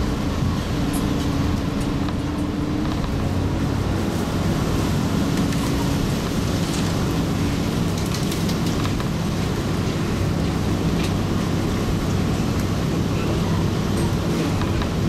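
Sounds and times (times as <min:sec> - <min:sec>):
diesel engine drone: 0:00.0 - 0:15.0
rumbling wheel noise: 0:00.0 - 0:15.0.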